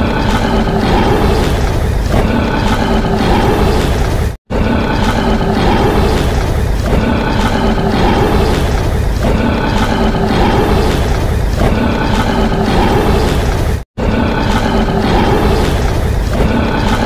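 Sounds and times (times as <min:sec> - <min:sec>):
deep rumbling roar: 0:00.0 - 0:17.0.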